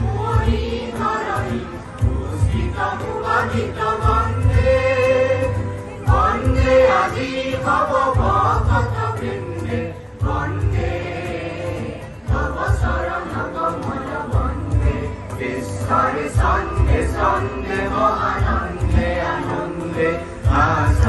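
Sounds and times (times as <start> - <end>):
male chorus singing folk song: 0.0 - 21.0.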